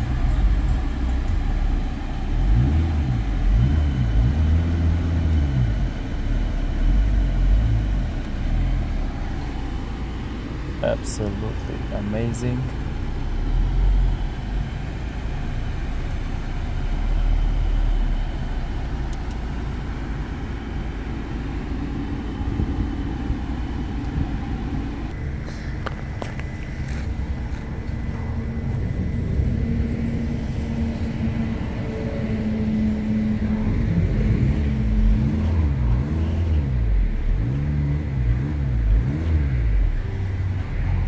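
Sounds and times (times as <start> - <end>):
diesel engine idling: 0.0 - 37.4.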